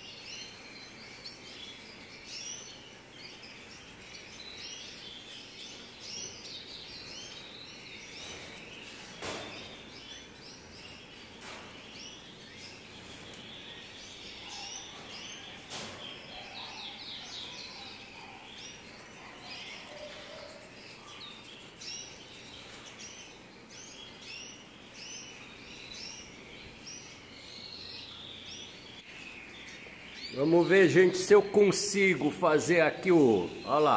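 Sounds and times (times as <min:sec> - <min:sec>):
canaries chirping: 0:00.0 - 0:33.9.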